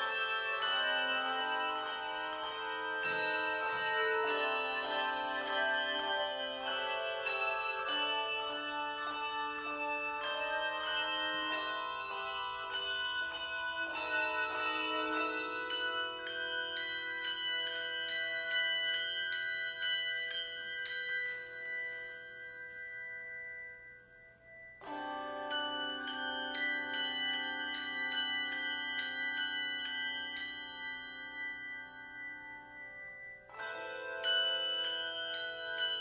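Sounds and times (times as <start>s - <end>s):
handbell choir ringing: 0.0s - 36.0s.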